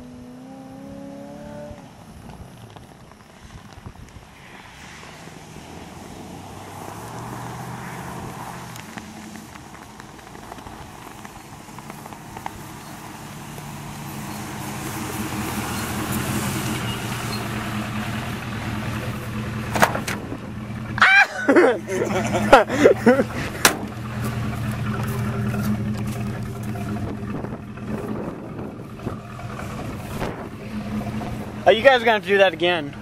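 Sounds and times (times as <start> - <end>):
truck engines running: 0.0 - 33.0.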